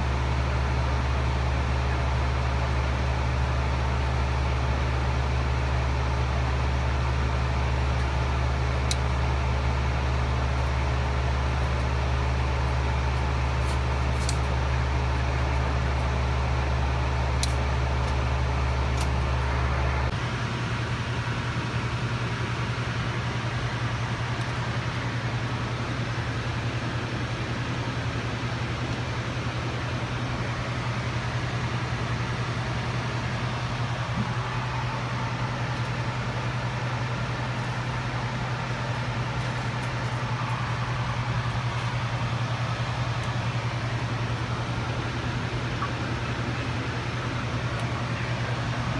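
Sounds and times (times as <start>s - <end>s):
constant low hum: 0.0s - 48.9s.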